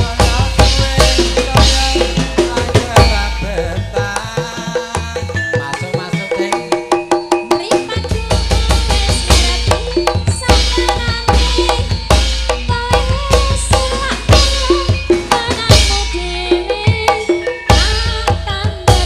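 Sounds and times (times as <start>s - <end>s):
ringing bronze metallophones: 0.0s - 19.0s
woman singing: 0.0s - 19.0s.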